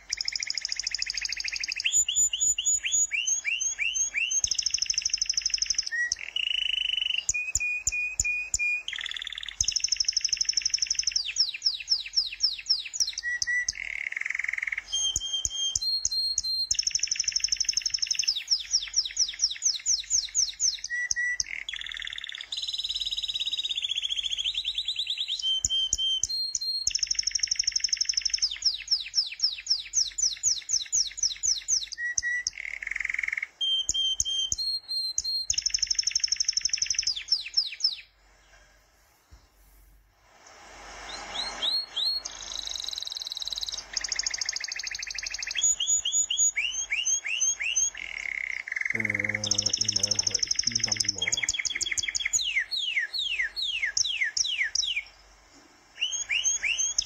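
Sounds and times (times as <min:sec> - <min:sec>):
songbird chirps trills and whistles: 0:00.0 - 0:57.0.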